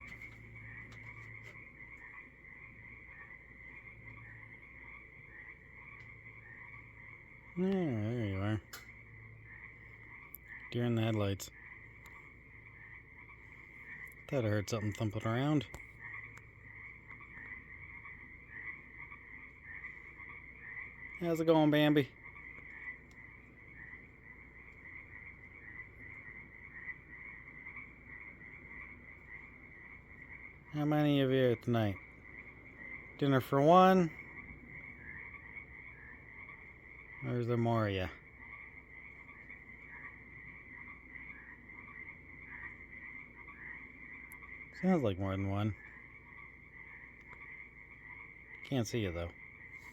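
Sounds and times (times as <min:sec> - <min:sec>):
frogs trilling chorus: 0:00.0 - 0:49.9
low steady hum: 0:00.0 - 0:49.9.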